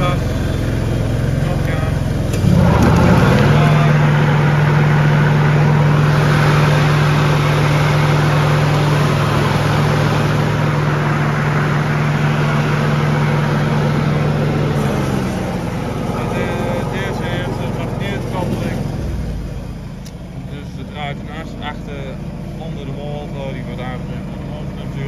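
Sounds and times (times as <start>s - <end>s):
ride-on mower engine running: 0.0s - 25.0s.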